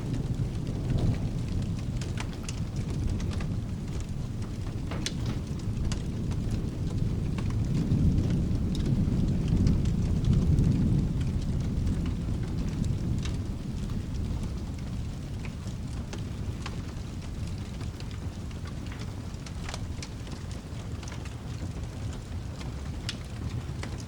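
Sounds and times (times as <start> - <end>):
distant thunder rumbling: 0.0 - 20.4
steady rain: 0.0 - 24.0
wood fire crackling: 0.0 - 24.0.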